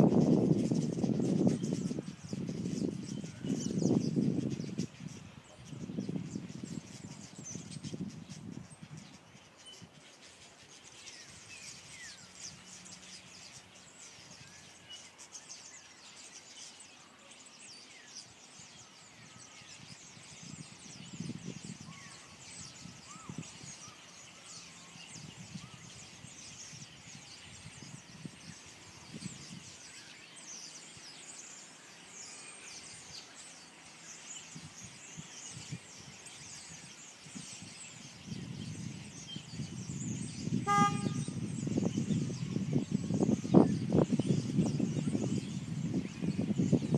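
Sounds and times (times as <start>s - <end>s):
flock of birds chirping: 0.0s - 46.9s.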